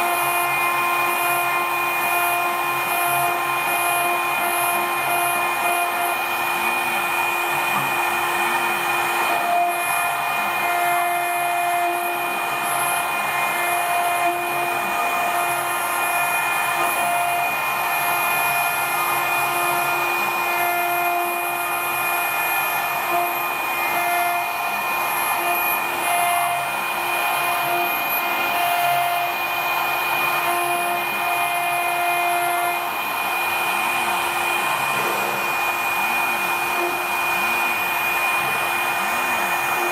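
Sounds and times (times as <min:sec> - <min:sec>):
engraving bit cutting metal: 0:00.0 - 0:39.9
engraving machine spindle whine: 0:00.0 - 0:39.9.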